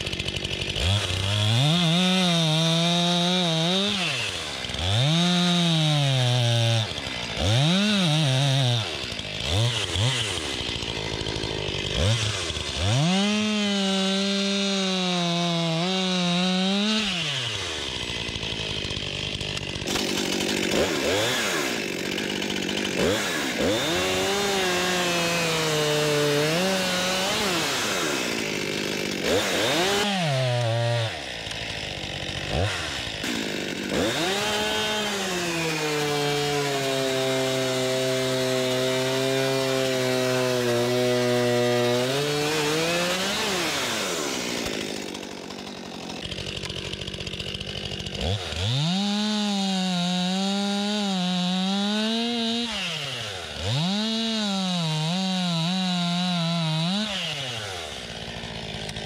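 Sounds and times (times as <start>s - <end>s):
chain cutting through wood: 0.0s - 59.0s
chainsaw engine revving: 0.0s - 59.0s.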